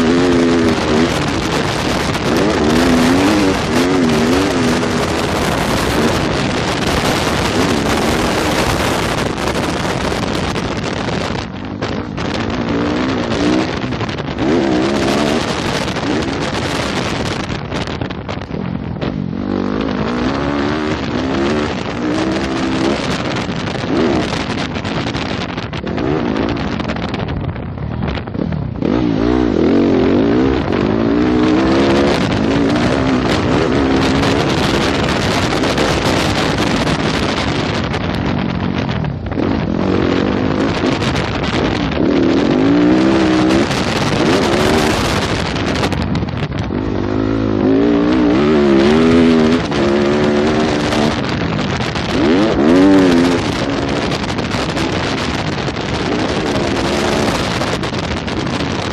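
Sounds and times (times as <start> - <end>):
motocross bike engine revving: 0.0 - 27.3, 28.1 - 58.9
wind noise: 0.0 - 58.9.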